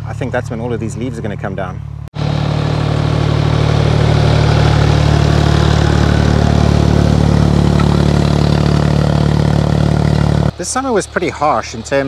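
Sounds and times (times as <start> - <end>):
tractor engine running under load: 1.8 - 12.0.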